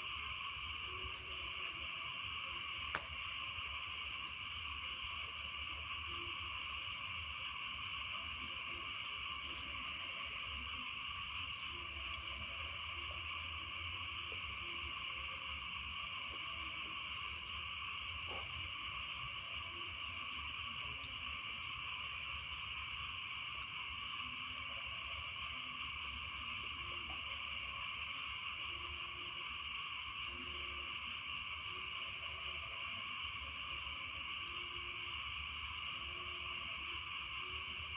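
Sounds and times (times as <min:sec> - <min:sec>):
frogs calling: 0:00.0 - 0:37.9
insects trilling: 0:00.0 - 0:37.9.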